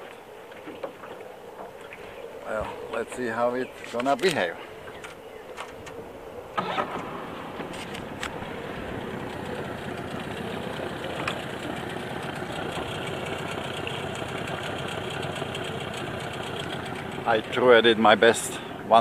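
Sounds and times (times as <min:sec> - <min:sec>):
outboard motor running: 0:00.4 - 0:19.0.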